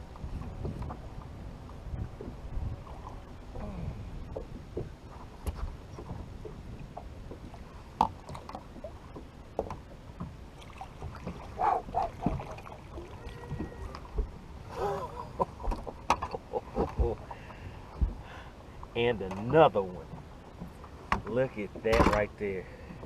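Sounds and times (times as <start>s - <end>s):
light knocks and clicks on boat: 0.0s - 23.0s.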